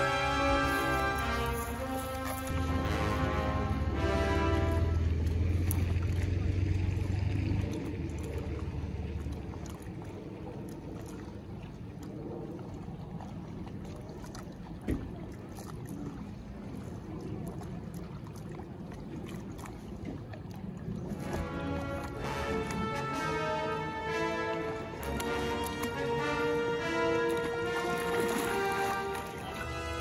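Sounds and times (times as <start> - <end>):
water sloshing: 0.0 - 30.0.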